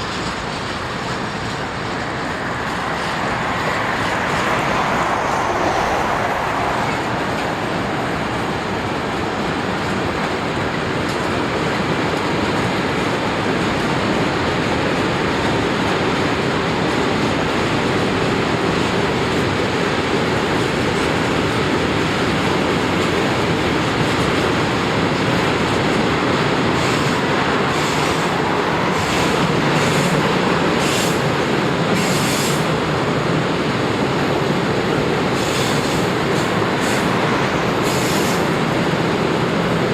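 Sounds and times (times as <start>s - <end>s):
train wagons rumbling on rails: 0.0s - 39.9s.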